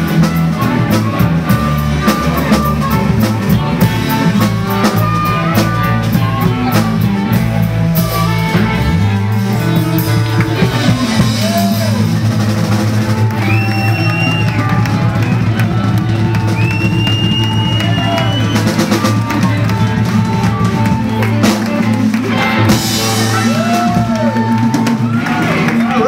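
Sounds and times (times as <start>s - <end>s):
drum kit steady beat: 0.0s - 26.0s
electric guitar bending notes: 0.0s - 26.0s.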